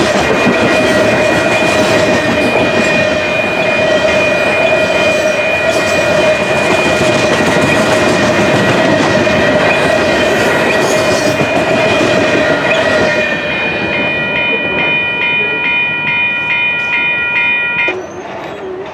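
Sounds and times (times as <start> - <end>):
train wheels clattering on rails: 0.0 - 18.9.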